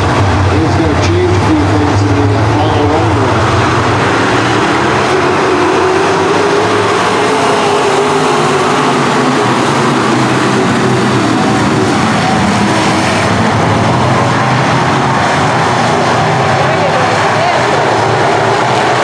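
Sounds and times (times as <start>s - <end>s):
race car engines running hard: 0.0s - 19.0s.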